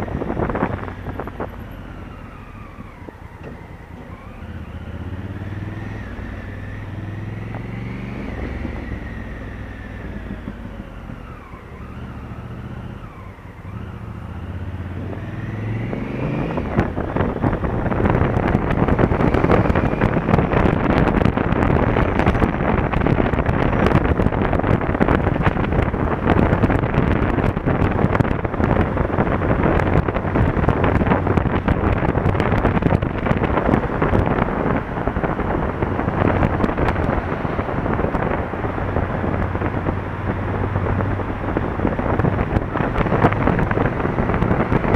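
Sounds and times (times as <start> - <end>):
motorcycle engine accelerating: 0.0 - 44.9
wind buffeting on microphone: 0.0 - 44.9.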